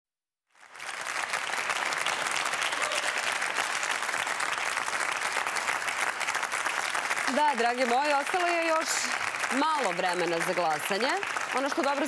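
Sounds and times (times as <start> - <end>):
audience applauding: 0.5 - 12.0.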